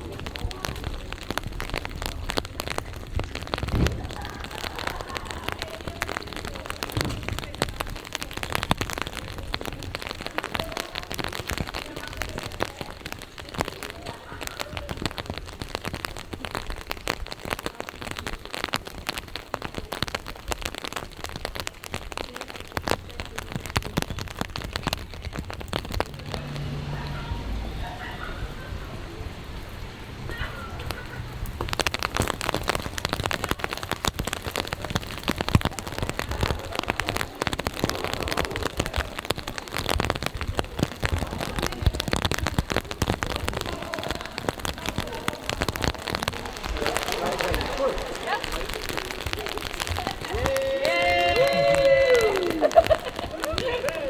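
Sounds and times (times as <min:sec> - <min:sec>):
raindrops clicking and tapping: 0:00.0 - 0:54.0
steady rain: 0:00.0 - 0:54.0.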